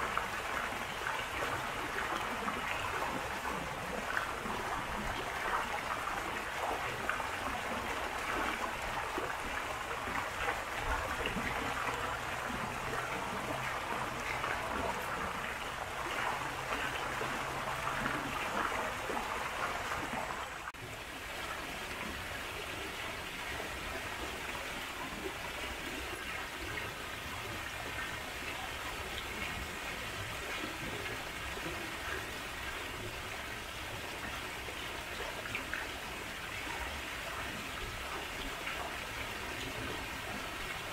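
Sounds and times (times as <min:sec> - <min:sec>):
running water splashing: 0:00.0 - 0:40.9.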